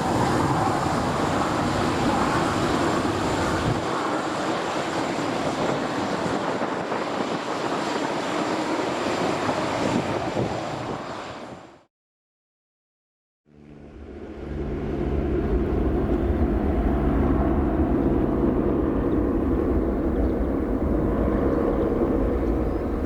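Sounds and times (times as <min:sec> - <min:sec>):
jet engines roaring: 0:00.0 - 0:11.8, 0:13.6 - 0:23.0.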